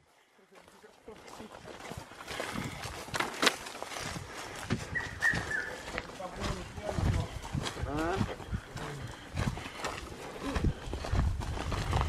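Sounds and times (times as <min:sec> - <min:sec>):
footsteps on dry grass and leaves: 0:00.0 - 0:12.0.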